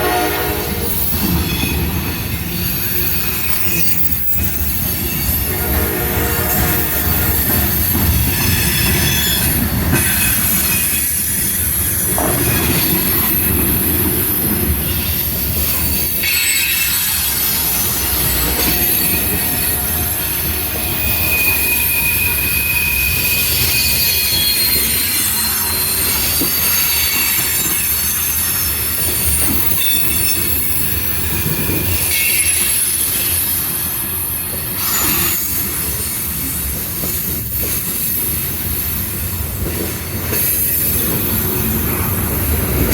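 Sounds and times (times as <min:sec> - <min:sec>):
train cars rumbling on rails: 0:00.0 - 0:42.9
high wheel squeal: 0:00.1 - 0:42.9.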